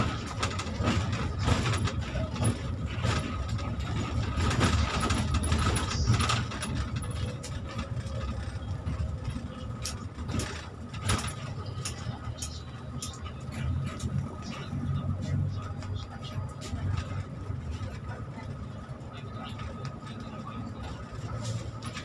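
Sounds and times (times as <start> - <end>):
bus engine and road rumble: 0.0 - 22.0
bus fittings rattling: 0.0 - 22.0.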